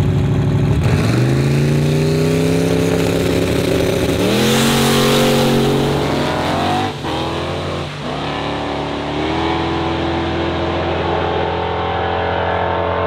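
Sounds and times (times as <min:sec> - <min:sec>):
race cars accelerating: 0:00.8 - 0:13.0.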